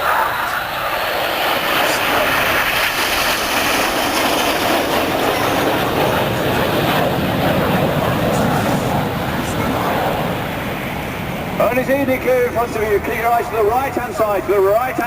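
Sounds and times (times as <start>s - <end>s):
jets roaring past: 0.0s - 15.0s.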